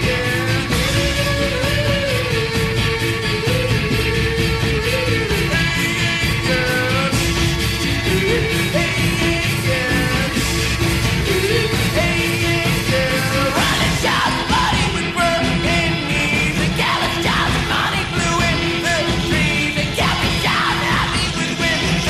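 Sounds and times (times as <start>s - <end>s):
loud rock music: 0.0s - 22.0s.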